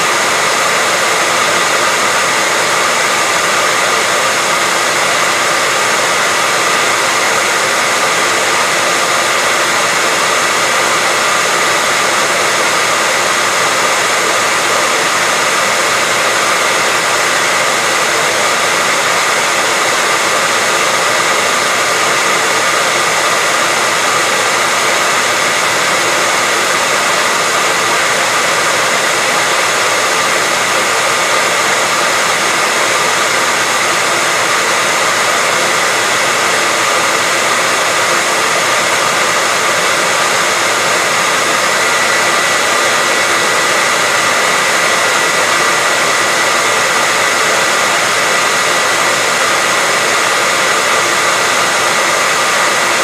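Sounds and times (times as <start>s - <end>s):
hairdryer blowing air: 0.0s - 53.0s.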